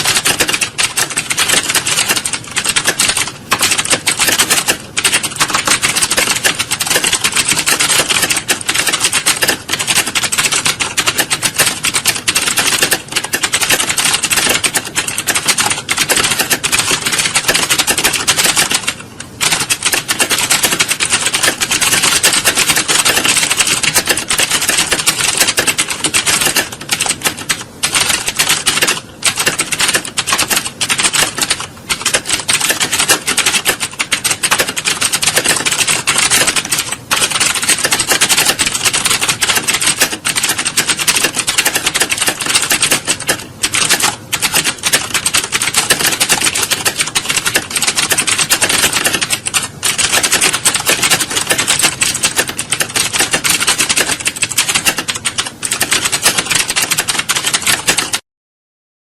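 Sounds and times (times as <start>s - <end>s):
fast typing on computer keyboard: 0.0s - 58.2s.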